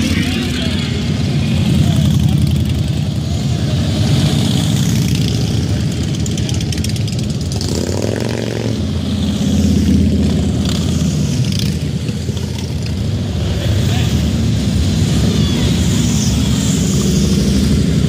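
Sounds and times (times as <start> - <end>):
motorcycles passing: 0.0 - 18.0.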